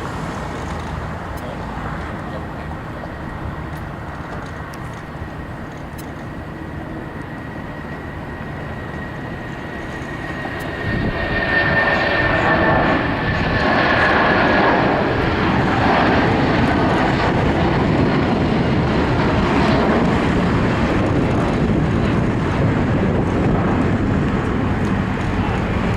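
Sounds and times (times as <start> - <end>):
high engine whine: 0.0 - 25.9
jet engines roaring: 0.0 - 25.9.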